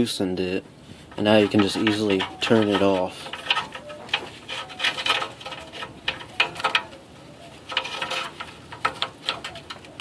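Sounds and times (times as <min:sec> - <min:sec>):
clicks and scrapes of unscrewing: 0:00.9 - 0:10.0.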